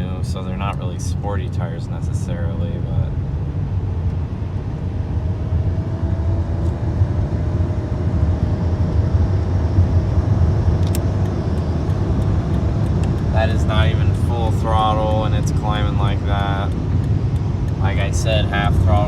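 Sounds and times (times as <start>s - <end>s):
car engine accelerating: 0.0s - 19.0s
road drone: 0.0s - 19.0s.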